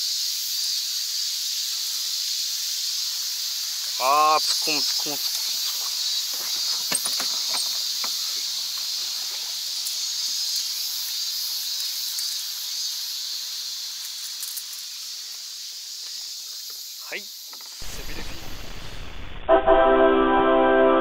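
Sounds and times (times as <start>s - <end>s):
cicada chorus drone: 0.0s - 19.2s.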